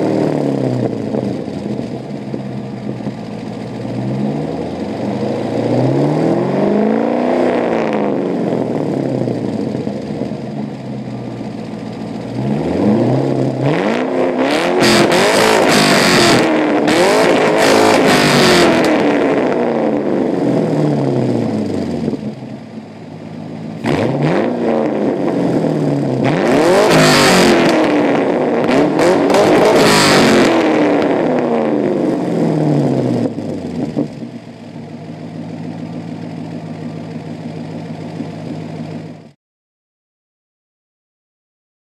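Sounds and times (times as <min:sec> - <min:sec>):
car engine idling: 0:00.0 - 0:39.4
car engine revving with crackles: 0:00.0 - 0:39.4.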